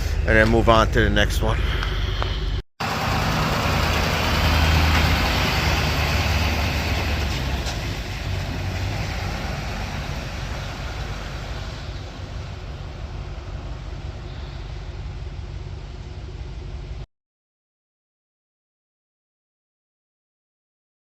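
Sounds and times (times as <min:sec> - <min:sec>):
truck engine running: 0:00.0 - 0:17.1.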